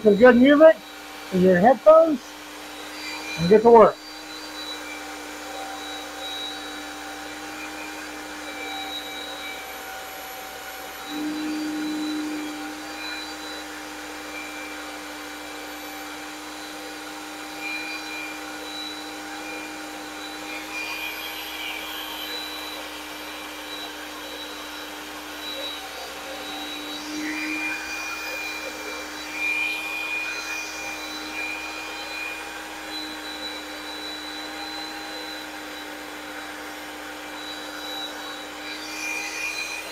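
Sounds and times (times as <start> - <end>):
electric drill running: 0.0 - 39.9.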